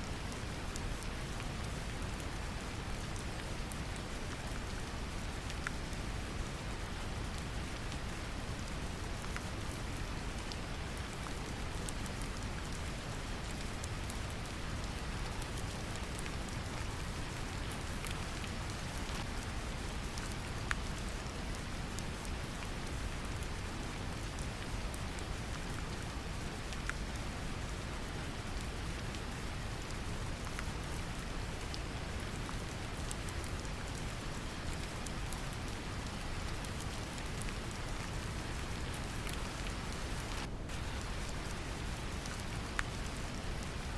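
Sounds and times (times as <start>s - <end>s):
brown noise with deep rumble: 0.0s - 43.9s
gentle rain falling: 0.0s - 43.9s.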